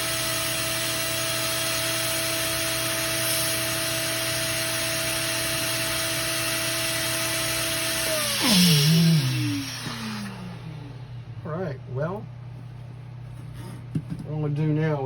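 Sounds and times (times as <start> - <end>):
electric pump whine and hum: 0.0 - 15.0.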